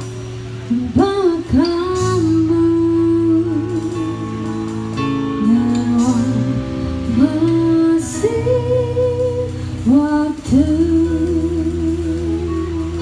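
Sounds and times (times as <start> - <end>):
guitars: 0.0 - 13.0
keyboard: 0.0 - 13.0
woman singing slow song: 0.7 - 13.0.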